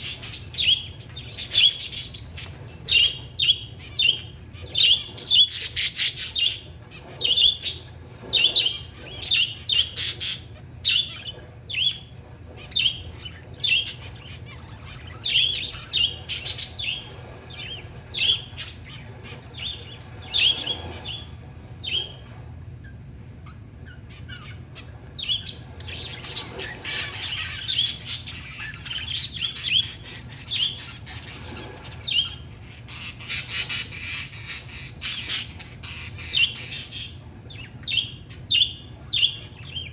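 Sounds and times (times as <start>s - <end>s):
parakeets and finches chirping: 0.0s - 39.9s.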